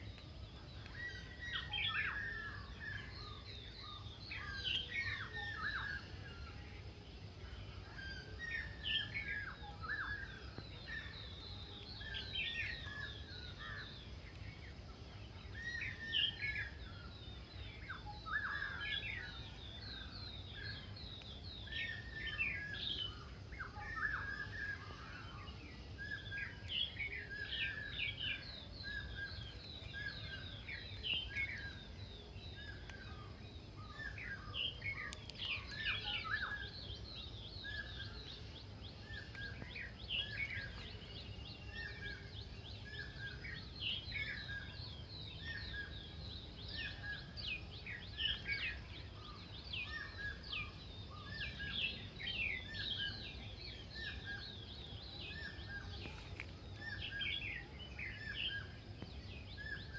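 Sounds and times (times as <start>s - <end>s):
birds chirping and calling: 0.0s - 6.7s, 7.3s - 59.9s.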